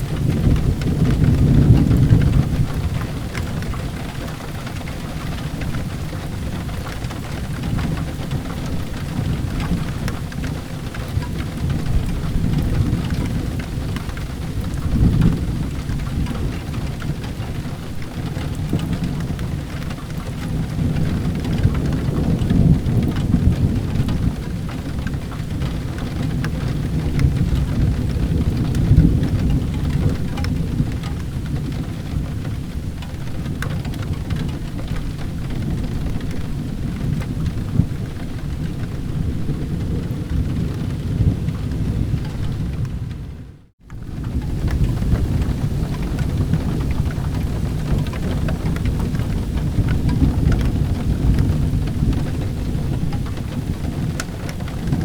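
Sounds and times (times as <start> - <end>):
heavy rain: 0.0 - 55.0
rolling thunder rumble: 0.0 - 55.0.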